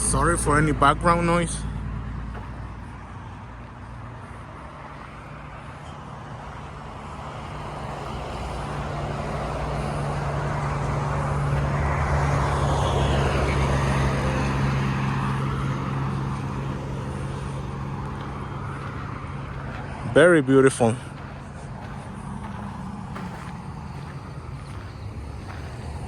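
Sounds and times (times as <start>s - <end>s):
vehicle passing close by: 1.8s - 26.0s.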